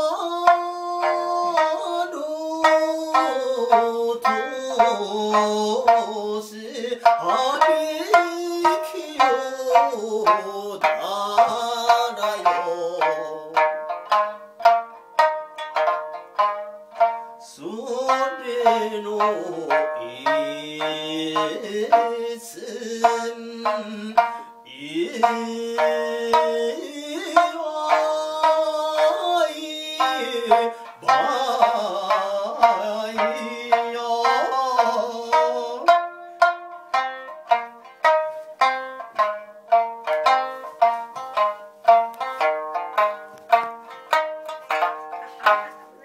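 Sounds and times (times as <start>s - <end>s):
man singing folk-style: 0.0s - 14.7s, 16.9s - 46.0s
plucked lute: 0.0s - 46.0s.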